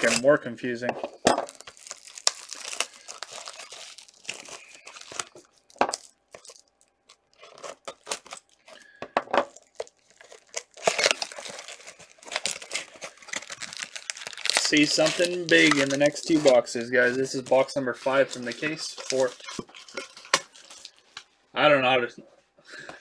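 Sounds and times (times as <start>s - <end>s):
shrink wrap crinkling and tearing: 0.0s - 0.4s, 1.5s - 8.9s, 9.5s - 21.3s.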